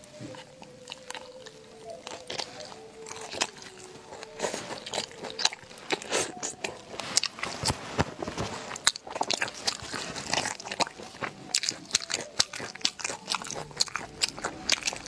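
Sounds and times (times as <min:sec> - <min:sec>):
crisp crunches of chewing snails: 0:00.0 - 0:15.0
wet chewing: 0:00.0 - 0:15.0.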